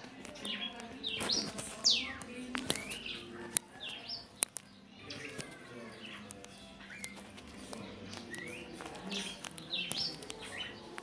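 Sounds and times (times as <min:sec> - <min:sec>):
birds chirping: 0:00.0 - 0:11.0
sharp clicks: 0:00.1 - 0:11.0.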